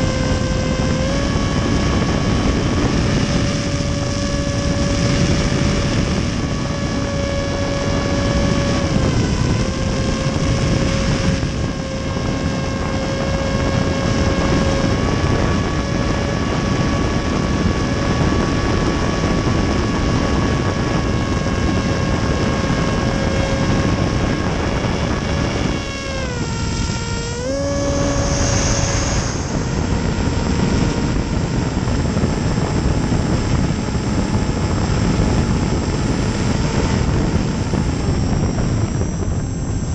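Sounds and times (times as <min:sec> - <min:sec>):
heavy wind rush: 0:00.0 - 0:39.9
model plane motor whining: 0:00.0 - 0:39.9.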